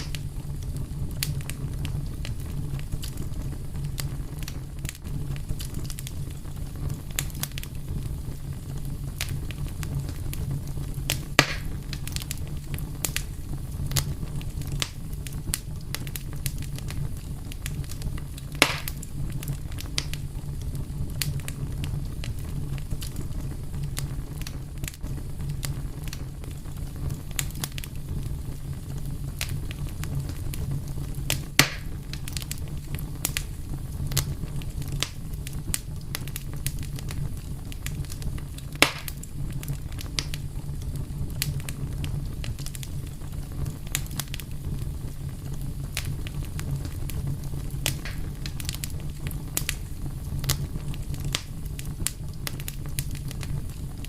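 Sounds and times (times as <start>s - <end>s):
fire crackling: 0.0s - 54.0s
fire pops: 0.0s - 54.0s.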